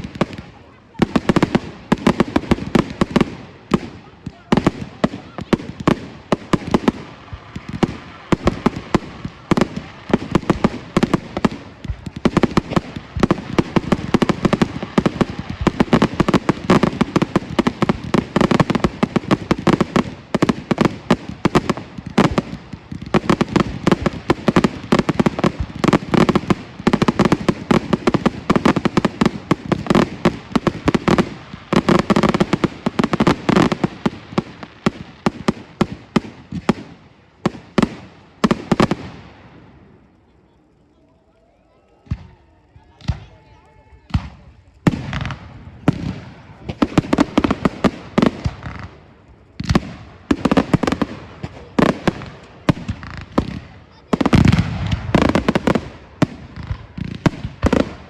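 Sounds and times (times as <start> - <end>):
fireworks bangs and crackles: 0.0 - 41.0, 41.9 - 58.0.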